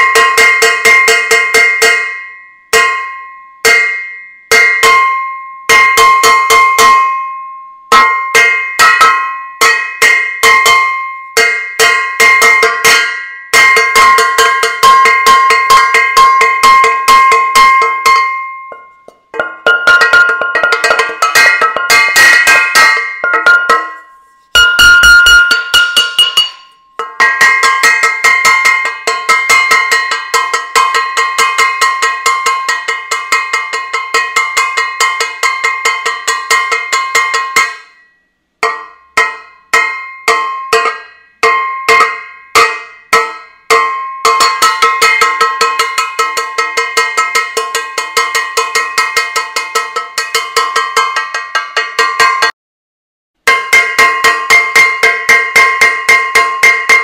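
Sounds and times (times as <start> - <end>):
metal saucepan banged ringing: 2.8 - 38.0, 38.6 - 52.5.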